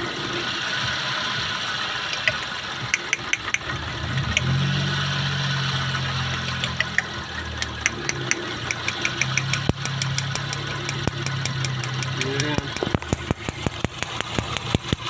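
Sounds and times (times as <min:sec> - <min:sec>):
car engine idling: 0:00.0 - 0:15.0
sharp regular ticking: 0:02.1 - 0:15.0.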